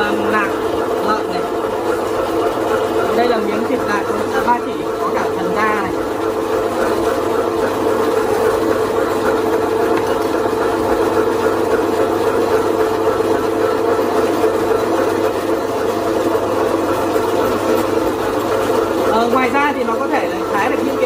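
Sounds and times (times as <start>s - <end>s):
meat slicer motor whirring: 0.0s - 21.0s.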